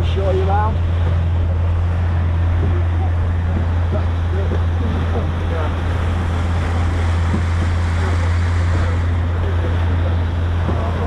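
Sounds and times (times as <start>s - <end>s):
boat engine drone: 0.0s - 11.0s
rushing water: 0.0s - 11.0s
wind: 0.0s - 11.0s.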